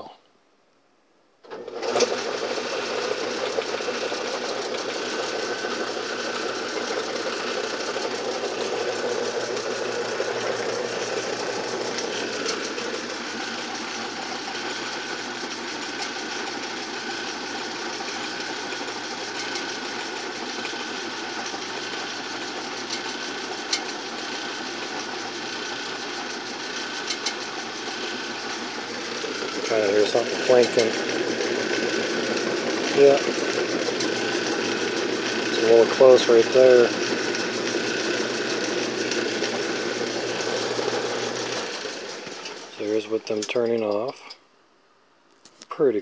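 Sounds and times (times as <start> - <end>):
can crusher machine running: 1.4 - 44.4.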